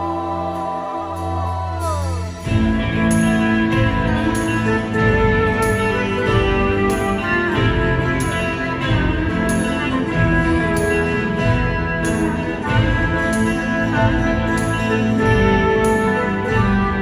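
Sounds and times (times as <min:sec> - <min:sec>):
live rock band: 0:00.0 - 0:17.0.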